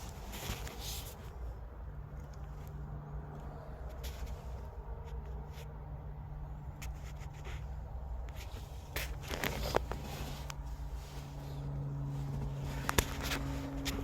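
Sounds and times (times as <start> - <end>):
light clicks and scrapes: 0.0 - 1.4, 2.1 - 5.9, 6.6 - 14.0
steady low hum: 0.0 - 14.0.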